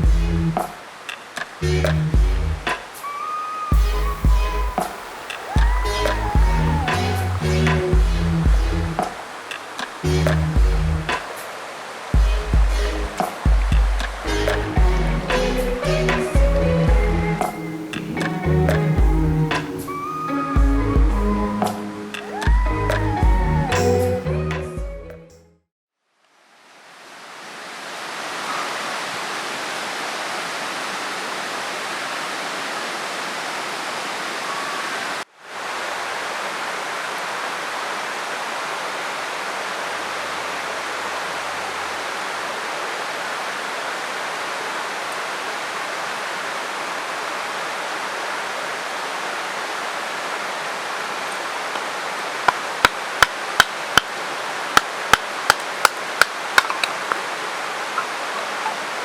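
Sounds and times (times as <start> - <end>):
mountain river rushing: 0.0 - 24.4, 26.3 - 59.0.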